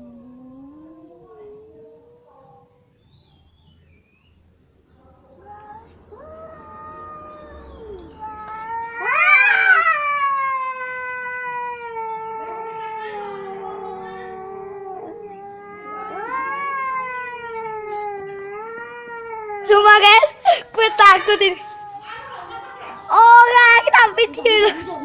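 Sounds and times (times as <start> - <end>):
cats caterwauling: 0.0 - 3.0, 5.1 - 25.0.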